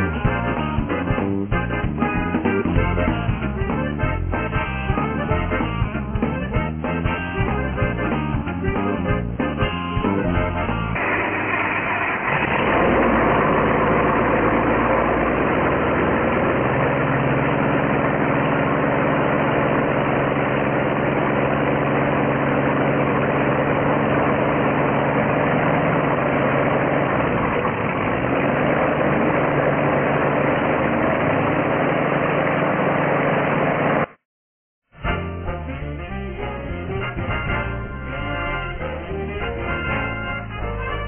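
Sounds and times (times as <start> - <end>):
aircraft engine running: 0.0 - 34.2, 35.1 - 41.0.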